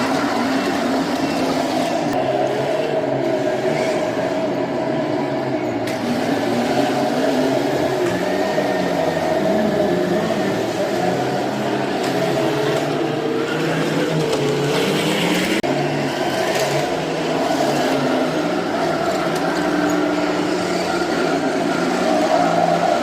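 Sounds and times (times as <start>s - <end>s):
model vehicle motors whining: 0.0s - 23.0s.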